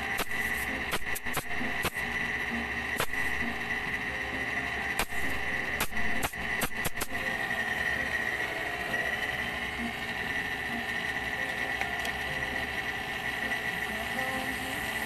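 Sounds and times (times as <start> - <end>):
machine hum with high whine: 0.0 - 15.0.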